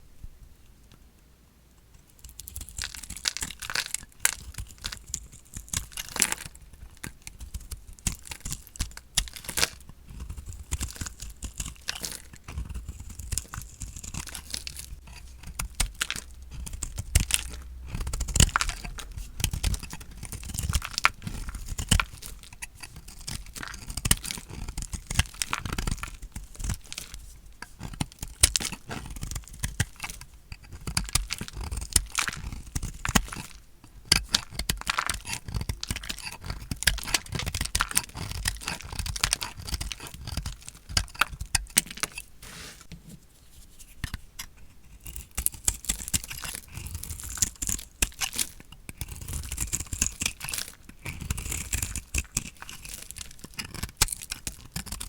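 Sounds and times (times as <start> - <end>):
blade cutting crunchy soap: 2.2 - 43.0, 44.1 - 55.0.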